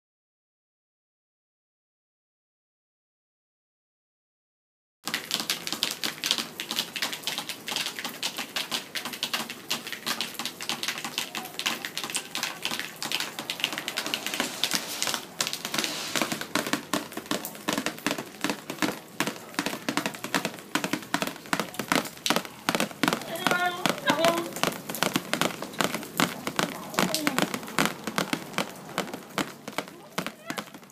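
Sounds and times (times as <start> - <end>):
rain pattering on paper: 5.0 - 30.9.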